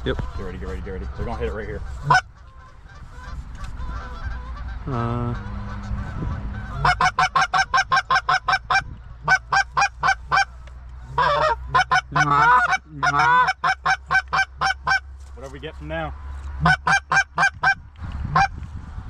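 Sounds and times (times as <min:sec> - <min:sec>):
goose honking: 0:00.0 - 0:15.1, 0:16.6 - 0:18.5.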